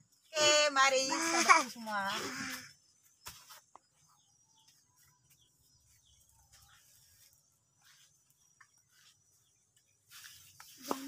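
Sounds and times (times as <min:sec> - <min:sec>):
soft bird chirps: 0:01.7 - 0:11.0.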